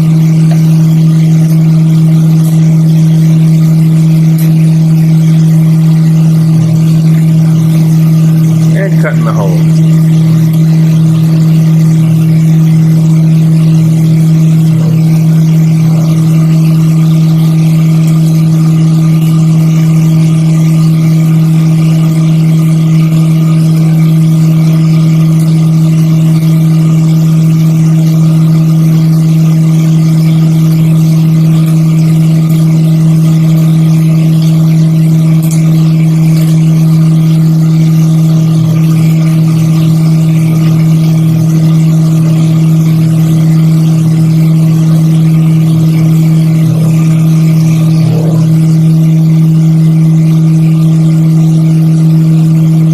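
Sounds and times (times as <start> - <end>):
milling machine spindle hum: 0.0 - 52.9.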